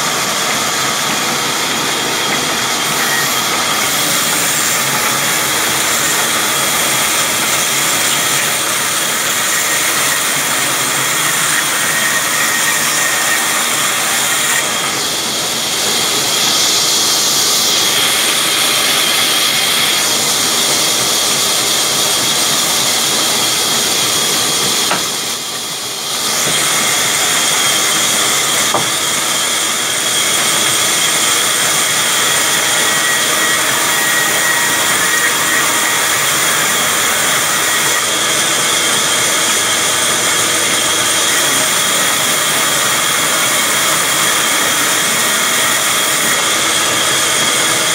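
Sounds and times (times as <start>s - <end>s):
band saw sawing a log: 0.0s - 47.9s.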